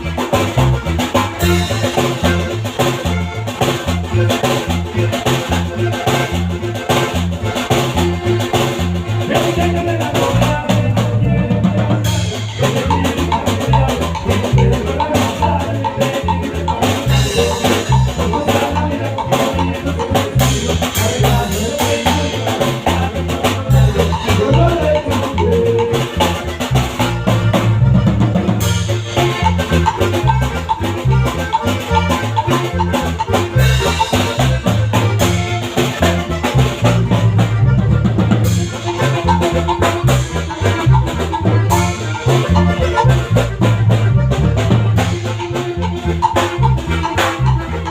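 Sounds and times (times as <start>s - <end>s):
band playing instrumental music: 0.0s - 47.9s
drum kit beat: 0.0s - 47.9s.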